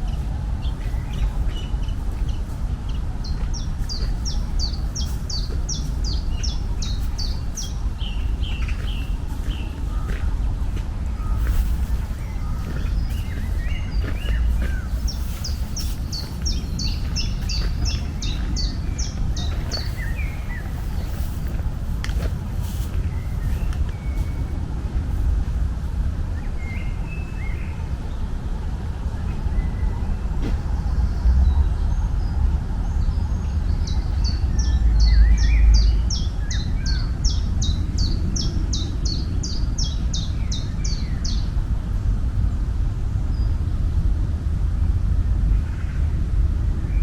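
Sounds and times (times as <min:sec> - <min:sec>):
birds chirping: 0:00.0 - 0:41.5
steady low rumble: 0:00.0 - 0:47.0.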